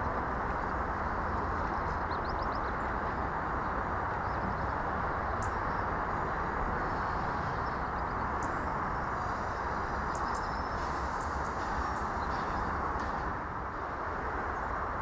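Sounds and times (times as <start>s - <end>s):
distant train running: 0.0s - 15.0s.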